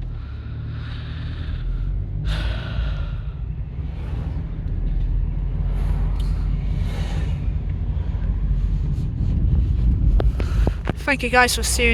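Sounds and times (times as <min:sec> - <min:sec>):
breathy rush of noise: 0:00.0 - 0:11.0
car engine rumble from inside: 0:00.0 - 0:11.9.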